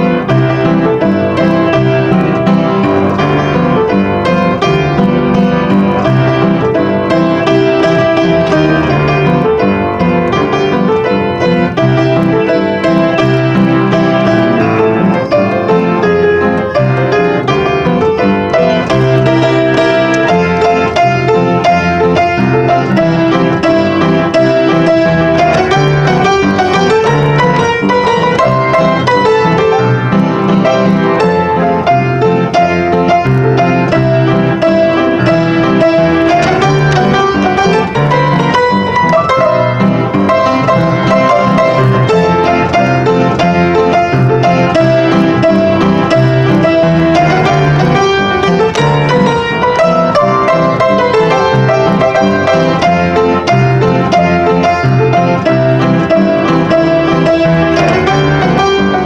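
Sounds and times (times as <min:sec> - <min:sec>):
ragtime piano: 0:00.0 - 0:59.0.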